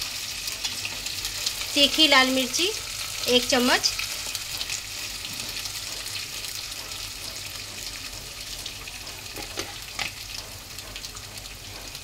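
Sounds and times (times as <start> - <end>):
onion frying in oil: 0.0 - 12.0.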